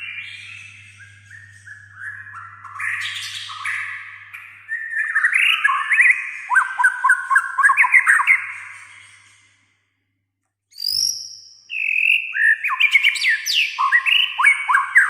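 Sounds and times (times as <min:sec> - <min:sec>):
bird whistling and chirping: 0:00.0 - 0:09.5, 0:10.7 - 0:15.0.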